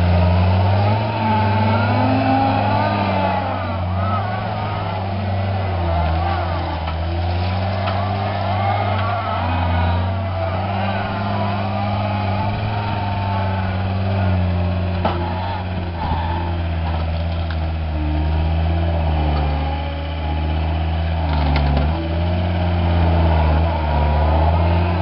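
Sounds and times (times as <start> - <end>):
diesel engine under heavy load: 0.0 - 25.0.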